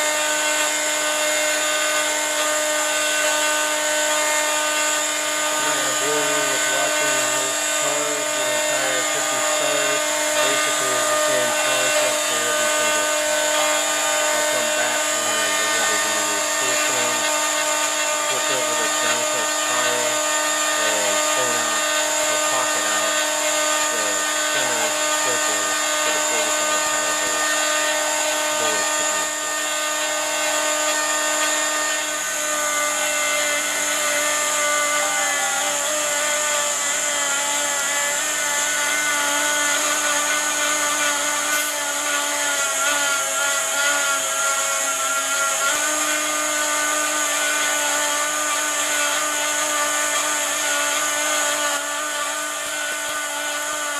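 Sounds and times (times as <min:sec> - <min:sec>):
cnc router spindle whine: 0:00.0 - 0:53.9.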